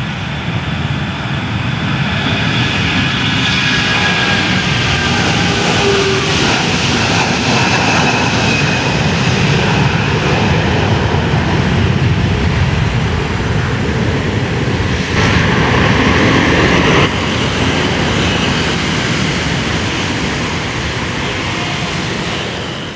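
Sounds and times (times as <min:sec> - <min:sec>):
airliner engines running: 0:00.0 - 0:22.9.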